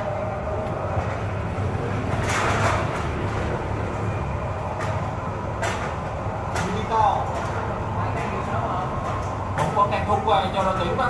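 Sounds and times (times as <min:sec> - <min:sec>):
restaurant background noise: 0:00.0 - 0:11.0.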